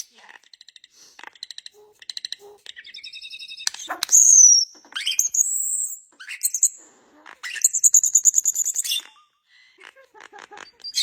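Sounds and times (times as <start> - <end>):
bird chirping: 0.0 - 11.0
bird trilling: 0.0 - 11.0.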